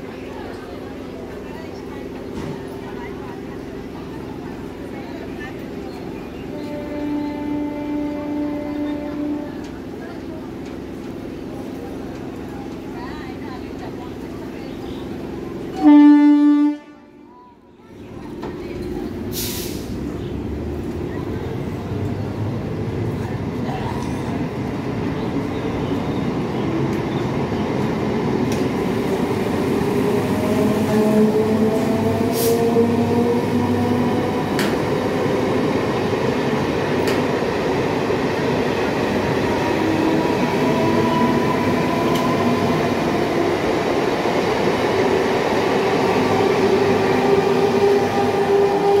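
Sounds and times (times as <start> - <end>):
train wheels rumbling on rails: 0.0 - 16.9, 17.5 - 49.0.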